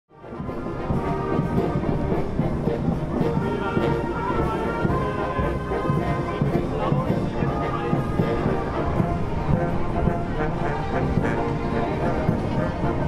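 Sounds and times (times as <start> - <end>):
brass band music: 0.1 - 13.0.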